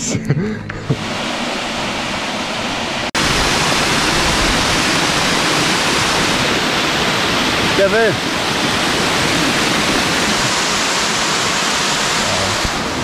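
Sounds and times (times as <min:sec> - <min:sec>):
waterfall and stream rushing: 0:00.9 - 0:13.0.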